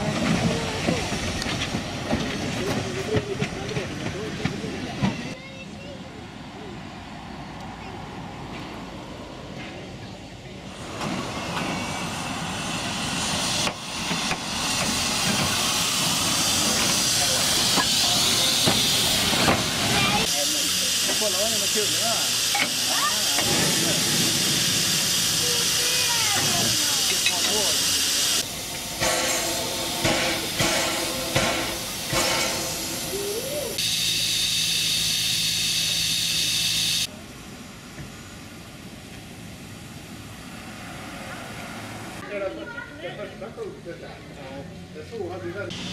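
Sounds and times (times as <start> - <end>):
steam locomotive hissing: 0.0 - 5.4, 10.6 - 42.2.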